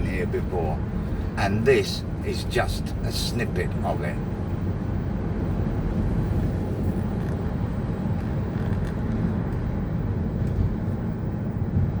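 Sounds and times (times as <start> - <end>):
vehicle interior rumble: 0.0 - 12.0.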